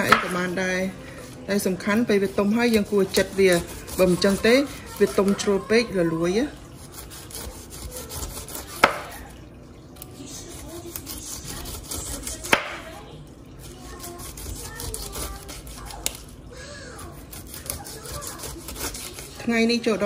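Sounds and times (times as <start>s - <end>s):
knife sawing through pineapple rind: 0.0s - 5.9s, 6.6s - 9.3s, 10.2s - 12.7s, 13.6s - 16.3s, 16.9s - 20.0s.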